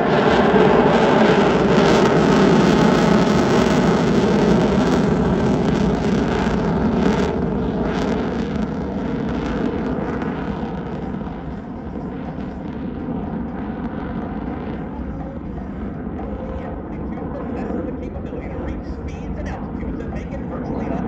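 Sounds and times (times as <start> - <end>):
loud rushing jet engine: 0.0 - 21.0.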